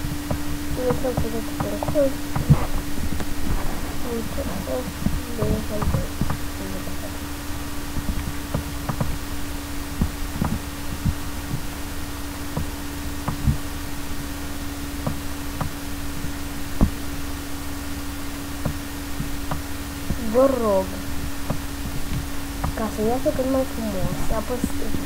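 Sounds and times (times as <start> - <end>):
electrical hum and rumble: 0.0 - 25.0.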